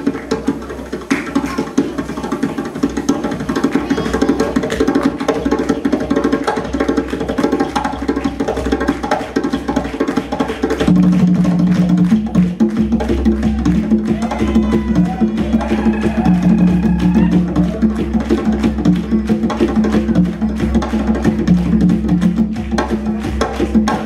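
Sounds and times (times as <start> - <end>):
djembe hand drumming: 0.0 - 24.0.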